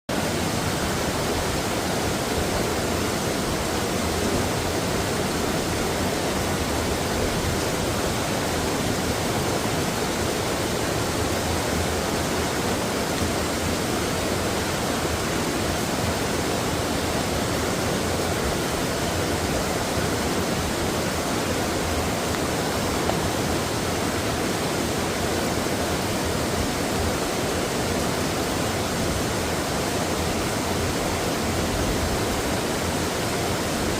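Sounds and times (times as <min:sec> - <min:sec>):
water rushing over rocks: 0:00.1 - 0:33.9.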